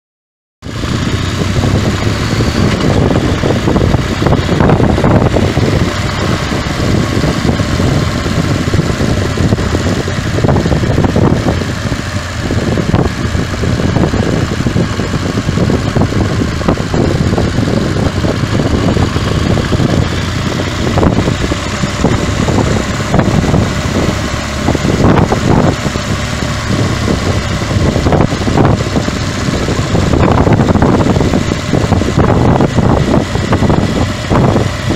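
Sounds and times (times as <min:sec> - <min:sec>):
motorcycle engine running: 0:00.6 - 0:34.9
wind buffeting microphone: 0:00.7 - 0:34.9.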